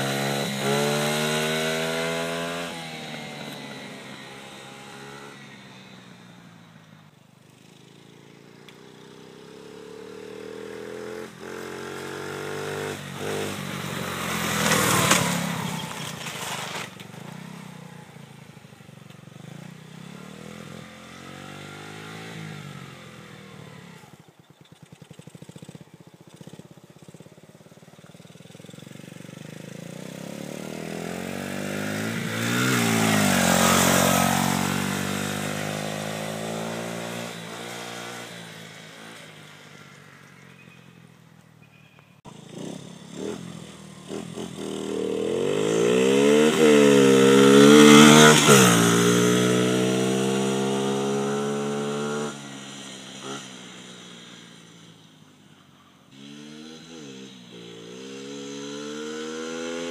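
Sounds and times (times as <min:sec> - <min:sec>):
mini bike engine passing by: 0:00.0 - 0:41.7, 0:42.3 - 0:59.9.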